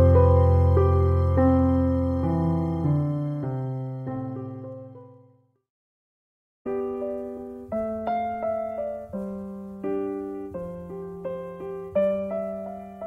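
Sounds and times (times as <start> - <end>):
gentle piano music: 0.0 - 5.5, 6.7 - 13.0.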